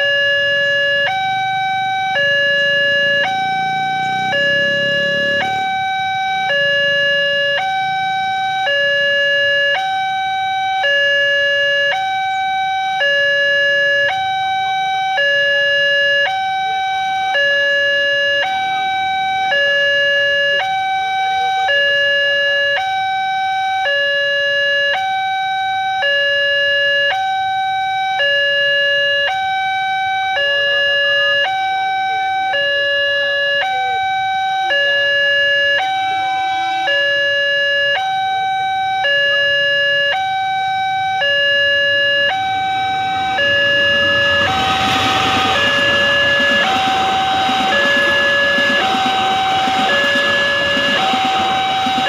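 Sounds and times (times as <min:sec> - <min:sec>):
crossing alarm two-tone chime: 0:00.0 - 0:52.0.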